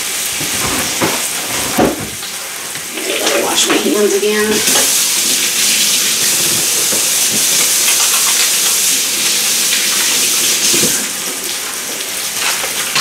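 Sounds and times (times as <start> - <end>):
meat searing in hot oil: 0.0 - 13.0.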